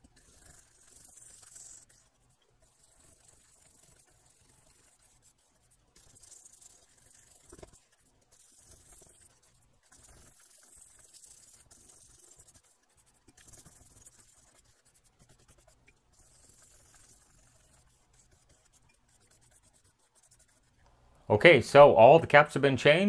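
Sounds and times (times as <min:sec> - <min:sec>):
brush scrubbing circuit board: 0:00.0 - 0:20.8.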